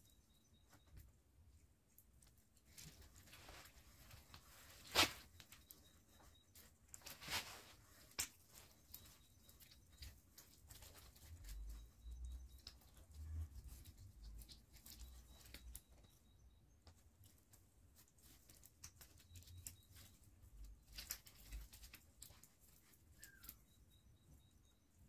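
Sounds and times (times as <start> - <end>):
wire clicks and leaf rustles: 1.9 - 24.0.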